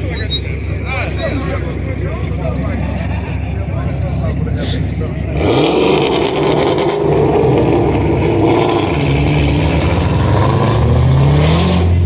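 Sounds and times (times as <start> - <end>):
car engines at high revs: 0.0 - 12.0
engine revving up: 0.0 - 12.0.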